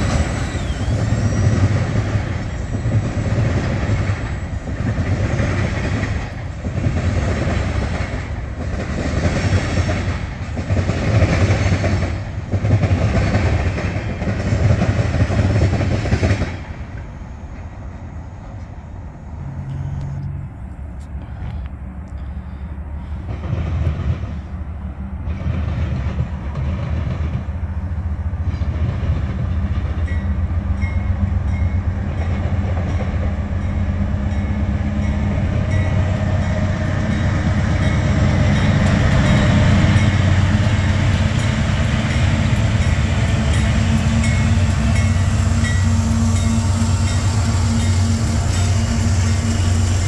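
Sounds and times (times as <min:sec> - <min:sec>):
diesel locomotive drone: 0:00.0 - 0:50.0
train wheels on rails: 0:00.0 - 0:50.0.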